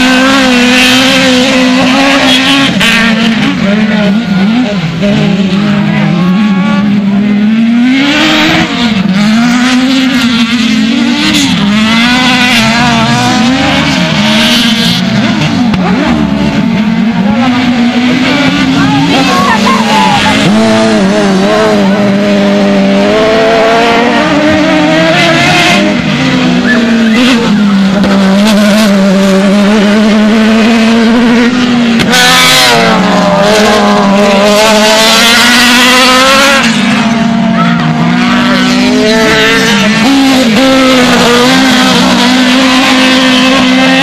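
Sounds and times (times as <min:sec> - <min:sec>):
race car engines accelerating: 0:00.0 - 0:44.0.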